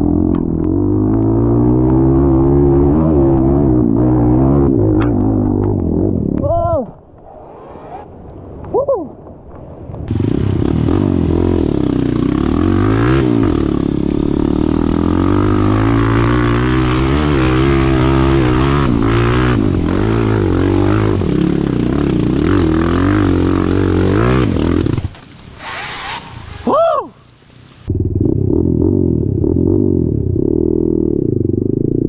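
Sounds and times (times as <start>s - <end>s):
off-road vehicle engine revving: 0.0s - 6.2s, 10.1s - 26.7s, 27.8s - 32.0s.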